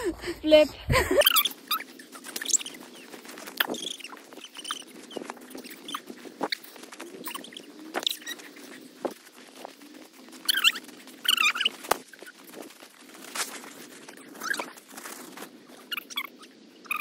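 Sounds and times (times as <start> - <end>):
footsteps crunching in snow: 1.4 - 15.9.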